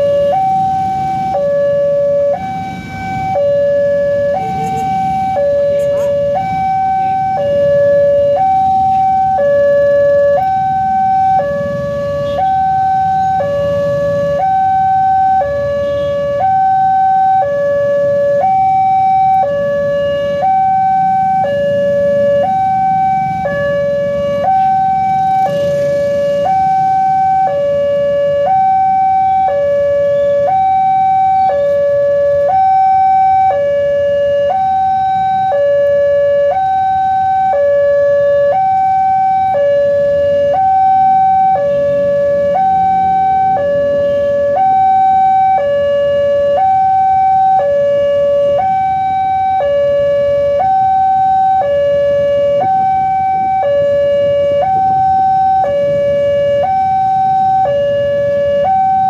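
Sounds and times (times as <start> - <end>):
road traffic rumble: 0.0 - 59.0
two-tone electronic crossing alarm: 0.0 - 59.0.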